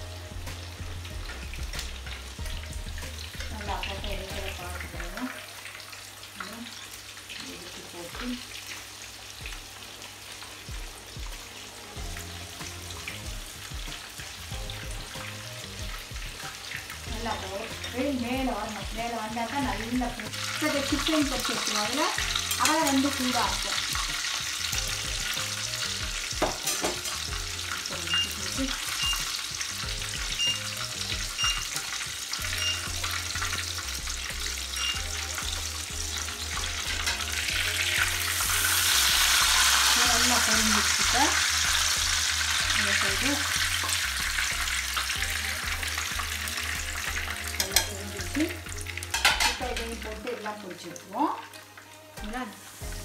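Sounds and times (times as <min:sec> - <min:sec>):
food sizzling in hot oil: 0:00.0 - 0:53.0.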